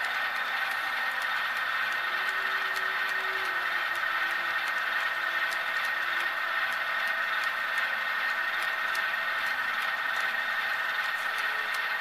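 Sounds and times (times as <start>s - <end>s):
faint irregular ticks: 0.0s - 12.0s
model train wheels rolling on rails: 0.0s - 12.0s.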